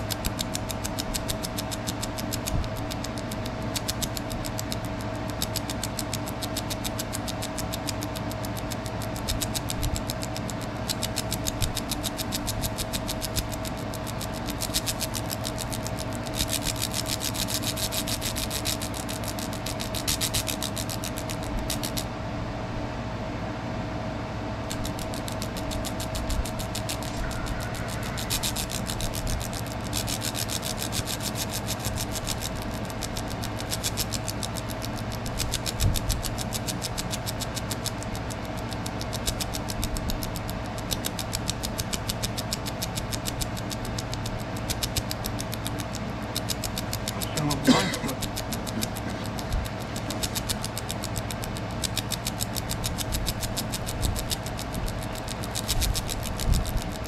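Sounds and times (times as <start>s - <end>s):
laser crackling buzz: 0.0s - 22.1s, 24.6s - 57.0s
machine hum and drone: 0.0s - 57.0s.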